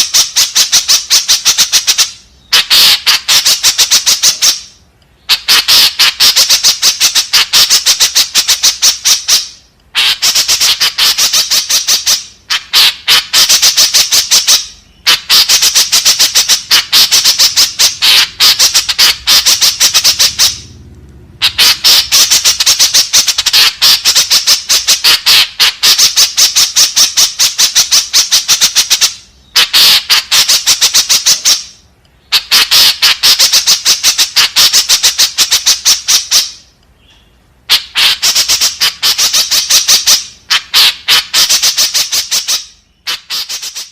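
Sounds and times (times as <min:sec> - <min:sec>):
bird rapid repeated calls: 0:00.0 - 0:43.9.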